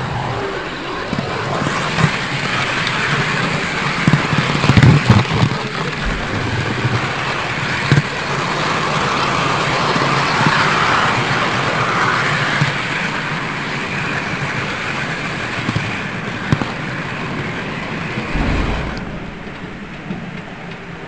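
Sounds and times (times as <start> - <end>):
model train whir and rumble: 0.0 - 21.0.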